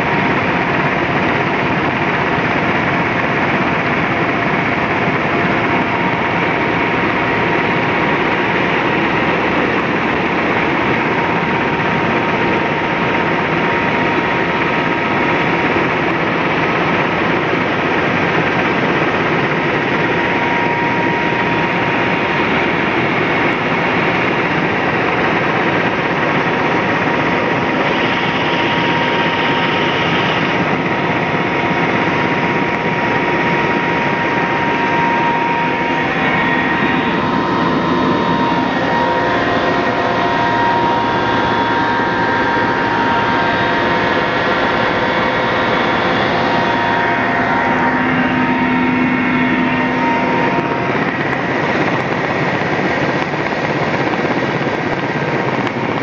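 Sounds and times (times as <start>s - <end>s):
helicopter engine and rotor noise: 0.0s - 56.0s
high whine: 0.0s - 56.0s.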